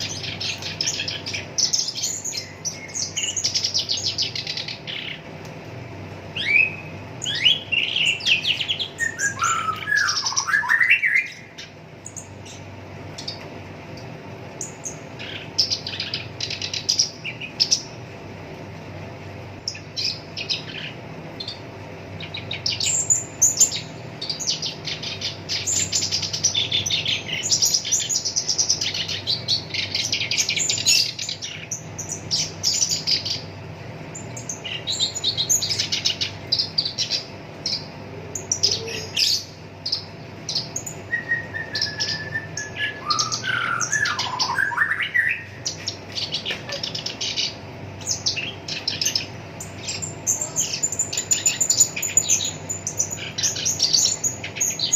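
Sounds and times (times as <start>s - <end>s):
reed warbler chattering song: 0.0s - 54.9s.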